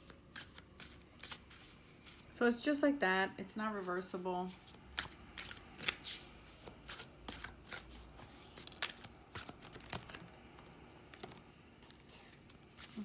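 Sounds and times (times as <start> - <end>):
cards being shuffled: 0.0 - 2.3, 4.5 - 13.0.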